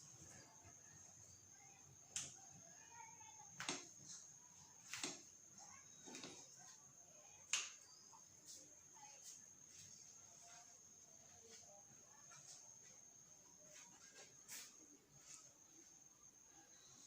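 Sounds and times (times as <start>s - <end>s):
faint high-pitched whine: 0.0s - 17.0s.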